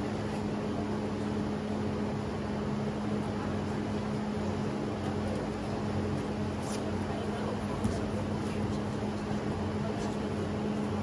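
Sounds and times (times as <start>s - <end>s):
mechanical hum with low drone: 0.0s - 11.0s.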